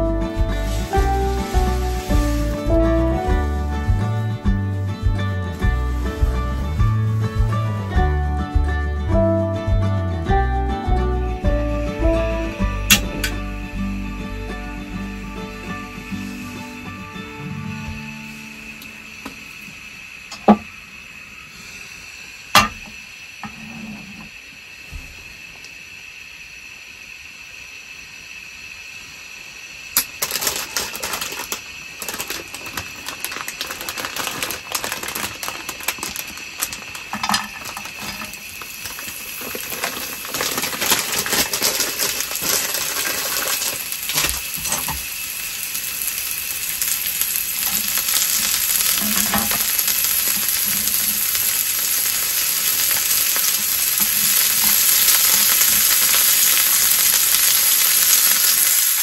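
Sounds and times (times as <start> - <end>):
spinach sizzling in oil: 0.0 - 8.0, 11.4 - 24.8, 25.7 - 59.0.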